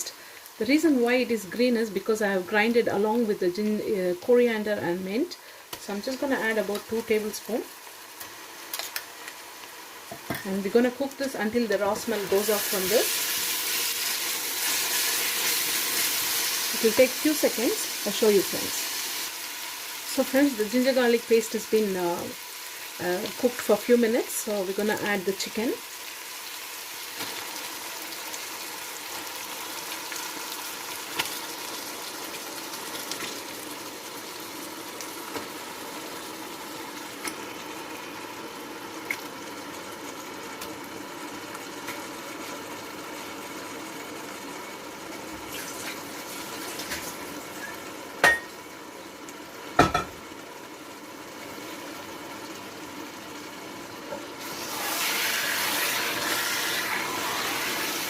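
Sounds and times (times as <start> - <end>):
chicken sizzling in oil: 0.0 - 58.0.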